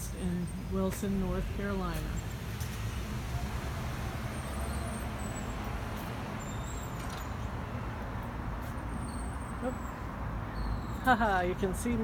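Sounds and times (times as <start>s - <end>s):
vehicles passing on street: 0.0s - 12.0s.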